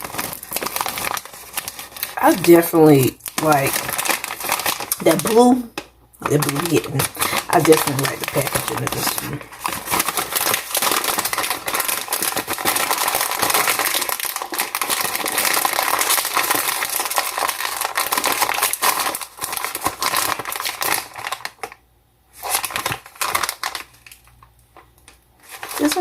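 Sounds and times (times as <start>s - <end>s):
snack bag rustling and crackling: 0.0s - 26.0s.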